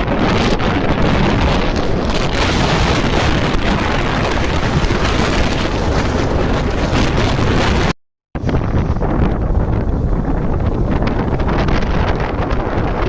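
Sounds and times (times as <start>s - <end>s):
gusty wind buffeting microphone: 0.0s - 13.0s.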